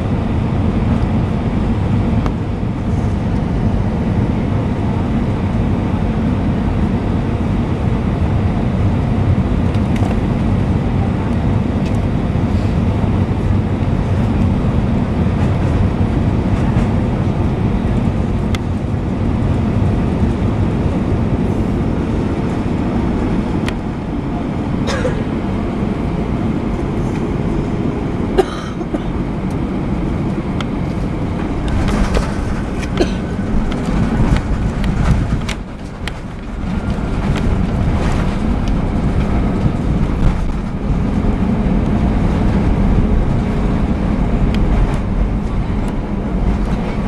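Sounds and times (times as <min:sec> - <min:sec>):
jet engines and wheels rumbling: 0:00.0 - 0:47.0.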